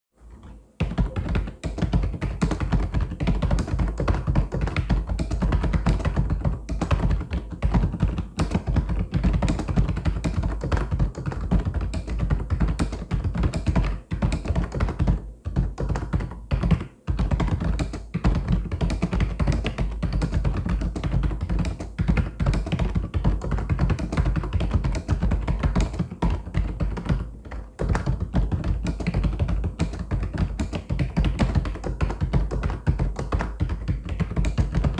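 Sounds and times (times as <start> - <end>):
mechanical keyboard typing: 0.8 - 34.9.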